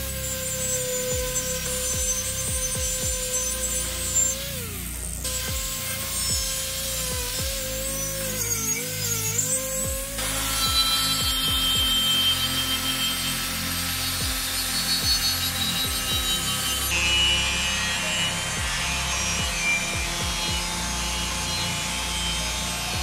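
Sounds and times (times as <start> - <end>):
angle grinder grinding metal: 0.0 - 23.0.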